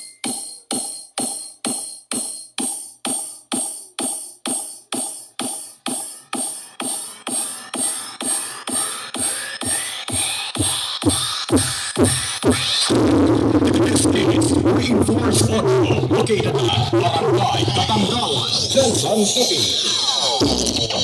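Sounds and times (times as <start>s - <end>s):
electronic dance music: 0.0s - 21.0s.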